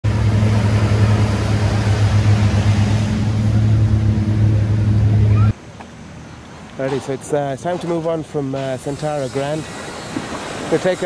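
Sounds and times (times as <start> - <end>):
boat engine droning with hiss: 0.1 - 11.0.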